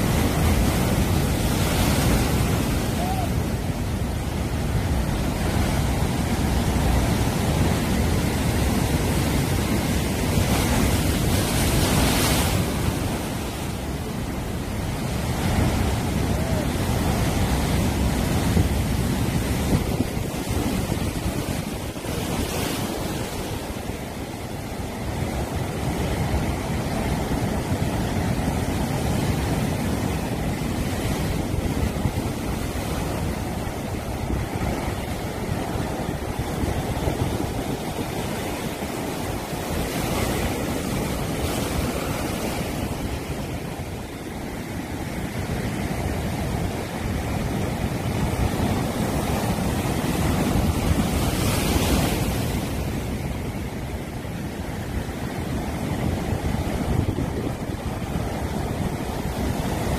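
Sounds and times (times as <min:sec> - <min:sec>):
waves crashing on rocks: 0:00.0 - 0:59.9.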